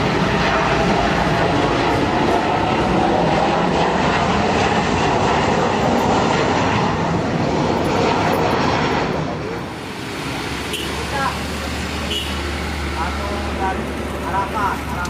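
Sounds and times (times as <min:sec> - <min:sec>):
jet airliner passing low: 0:00.0 - 0:15.0.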